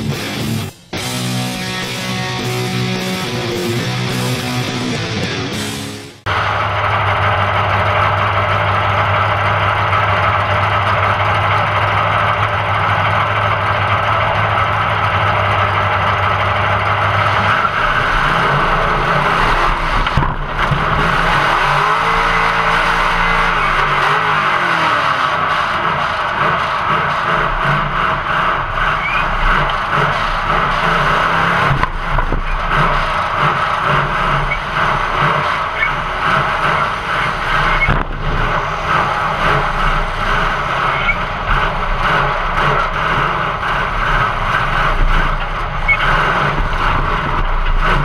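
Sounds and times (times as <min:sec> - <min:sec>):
car engine revving: 0:00.0 - 0:48.0
constant loud noise: 0:00.0 - 0:48.0.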